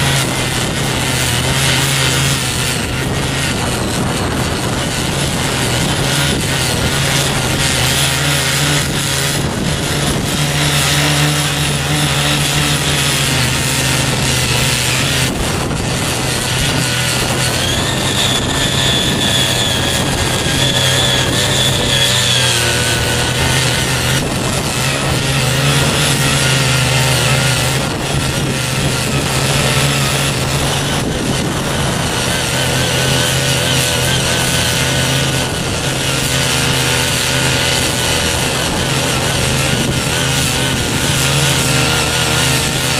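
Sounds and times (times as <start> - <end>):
high whine: 0.0 - 42.9
small petrol engine running: 0.0 - 42.9
tines tilling soil: 0.0 - 42.9.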